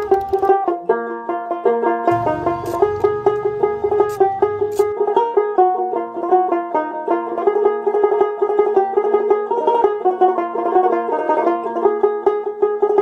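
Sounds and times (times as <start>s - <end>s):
banjo-like country tune: 0.0s - 13.0s.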